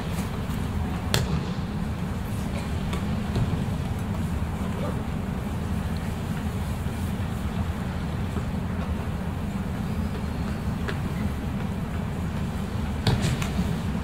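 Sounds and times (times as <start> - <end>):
low hall rumble: 0.0 - 14.0.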